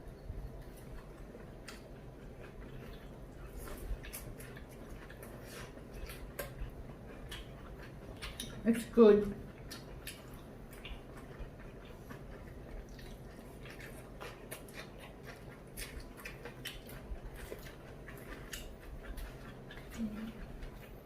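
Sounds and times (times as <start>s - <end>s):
chewing crispy fried chicken: 0.0s - 21.0s.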